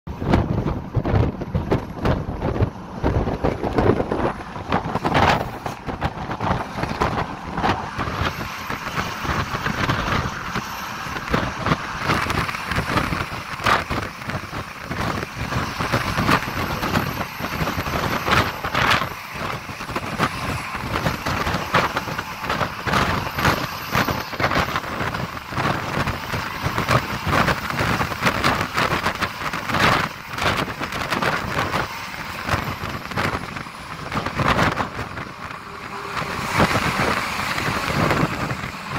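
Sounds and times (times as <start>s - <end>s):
bus engine: 0.0s - 38.9s
road and wind noise: 0.0s - 38.9s.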